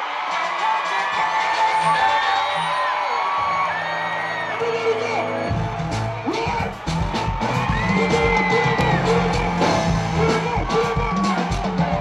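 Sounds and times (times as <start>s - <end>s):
crowd whooping: 0.0s - 12.0s
live concert music with beat: 0.0s - 12.0s.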